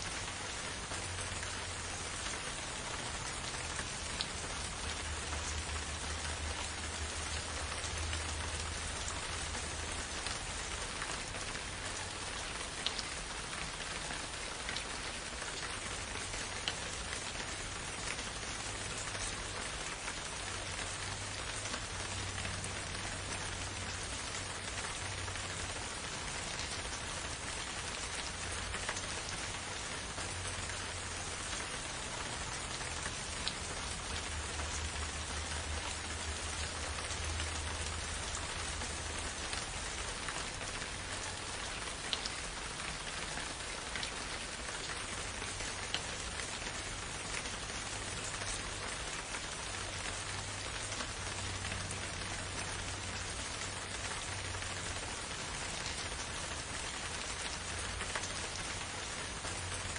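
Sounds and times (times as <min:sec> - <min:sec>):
rain falling in forest: 0:00.0 - 0:59.9.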